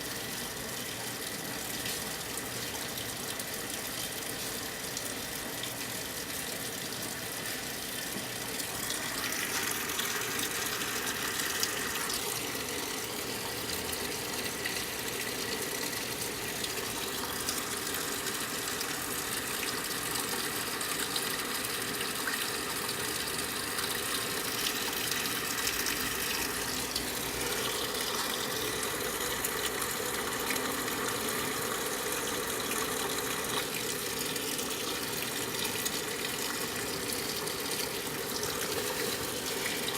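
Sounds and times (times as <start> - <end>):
water filling washing machine: 0.0 - 39.9.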